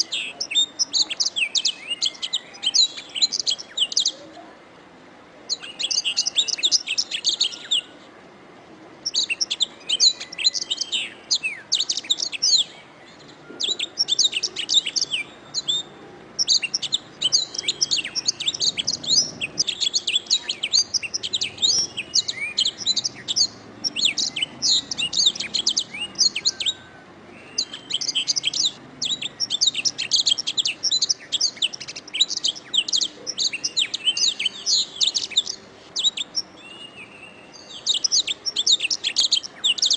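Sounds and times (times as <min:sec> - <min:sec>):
canary singing trills: 0:00.0 - 0:04.5, 0:05.5 - 0:08.0, 0:09.0 - 0:39.9.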